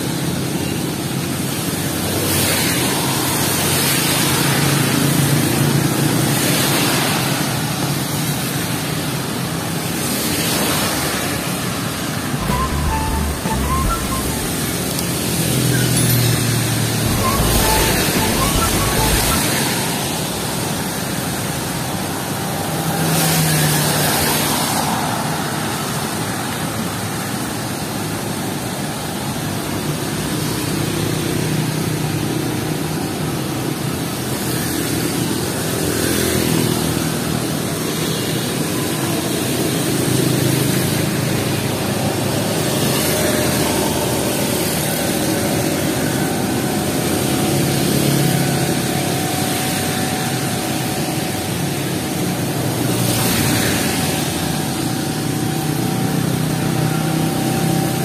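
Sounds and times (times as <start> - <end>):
cars passing on wet road: 0.0 - 13.0, 21.2 - 58.0.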